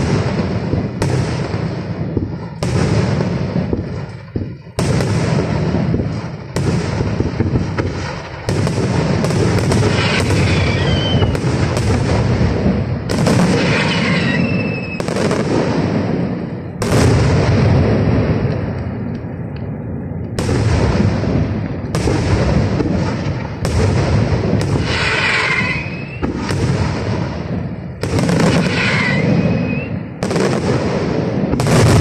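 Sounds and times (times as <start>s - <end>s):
firework shells bursting: 0.0s - 32.0s
rumble of explosions: 0.0s - 32.0s.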